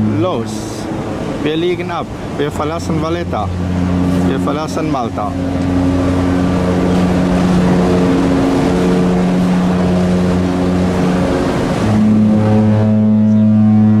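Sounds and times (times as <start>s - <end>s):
deep ship horn blast: 0.0s - 14.0s
higher ship horn blast: 0.0s - 14.0s
rushing noise: 0.0s - 14.0s.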